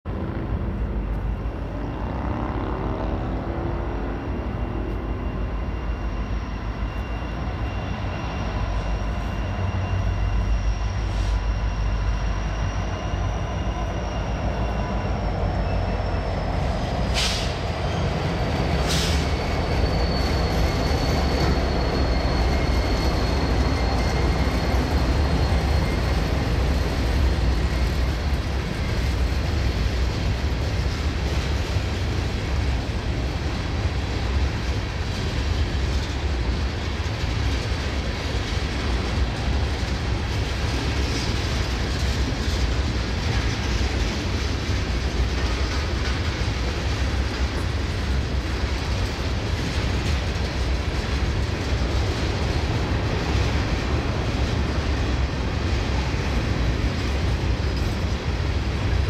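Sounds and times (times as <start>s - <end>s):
freight train rumbling past: 0.1s - 59.0s.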